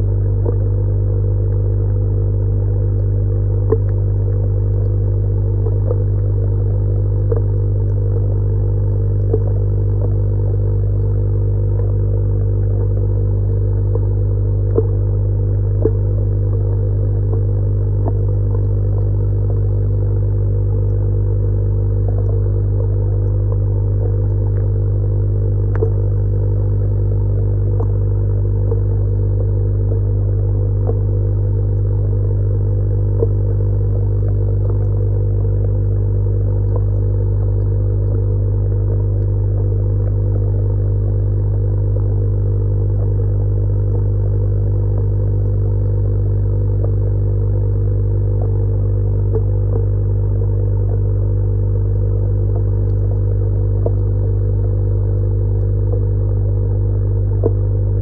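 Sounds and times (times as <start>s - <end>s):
air pump mains hum: 0.0s - 58.0s
faint ticks: 0.0s - 58.0s.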